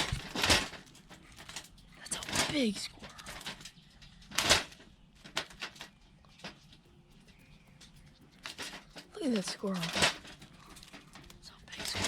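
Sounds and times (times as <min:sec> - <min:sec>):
trap rattling: 0:00.0 - 0:12.0.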